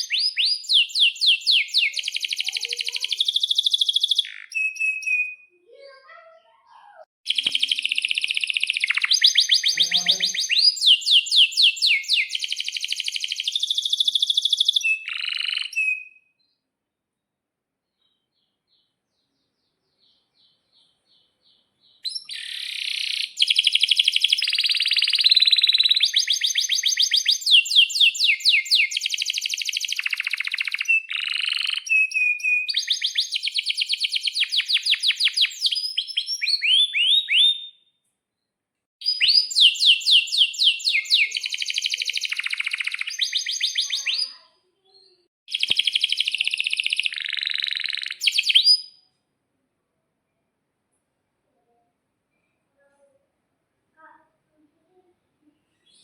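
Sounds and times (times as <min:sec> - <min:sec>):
canary singing trills: 0:00.0 - 0:16.6, 0:18.1 - 0:37.9, 0:39.0 - 0:49.0.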